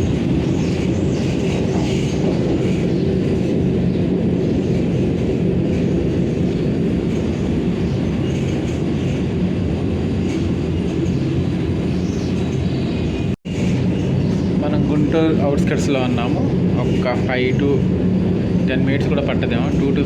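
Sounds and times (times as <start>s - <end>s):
electric train rumbling at speed: 0.0s - 20.0s
wheels on the track: 0.0s - 20.0s.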